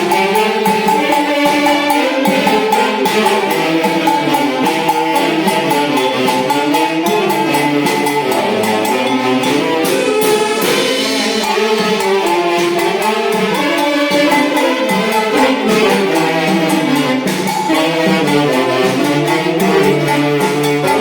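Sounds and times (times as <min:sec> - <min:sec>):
band playing dance tune: 0:00.0 - 0:21.0
percussive beat: 0:00.0 - 0:21.0.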